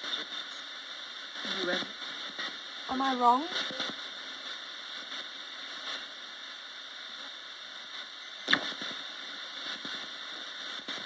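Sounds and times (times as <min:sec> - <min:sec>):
radio static hiss: 0:00.0 - 0:11.0
sharp radio crackle: 0:00.0 - 0:11.0.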